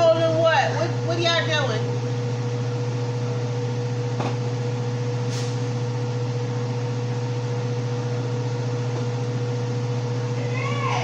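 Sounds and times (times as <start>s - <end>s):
range hood fan humming: 0.0s - 11.0s.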